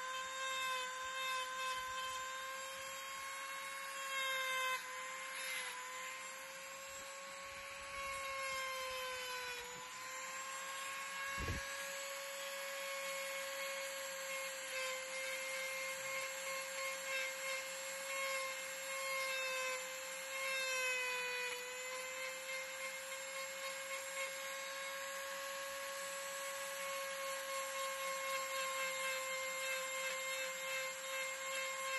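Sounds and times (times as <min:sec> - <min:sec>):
rotary tool grinding wood: 0:00.0 - 0:31.9.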